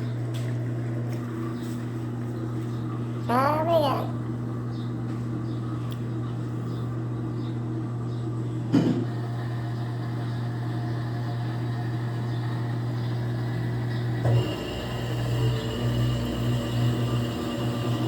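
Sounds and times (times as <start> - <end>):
drain pump humming: 0.0 - 18.0.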